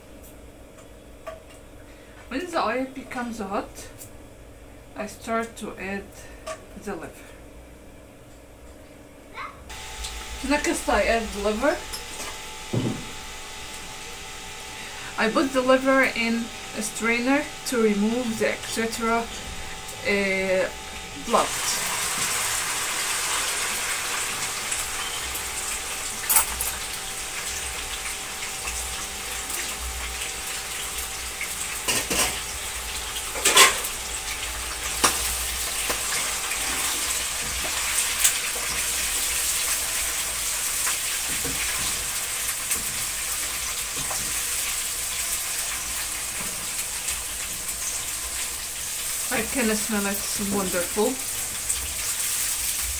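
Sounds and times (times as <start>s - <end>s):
liver sizzling in oil: 9.7s - 52.9s.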